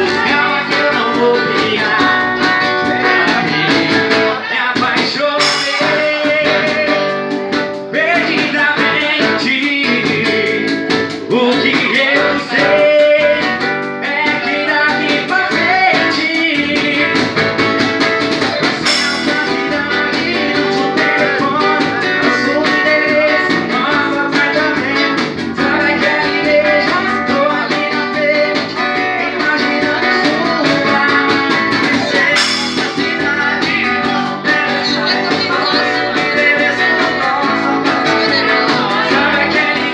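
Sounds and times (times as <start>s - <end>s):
man singing into a microphone: 0.0s - 17.6s, 18.3s - 39.9s
drum kit: 0.0s - 39.9s
strummed acoustic guitar: 0.0s - 39.9s.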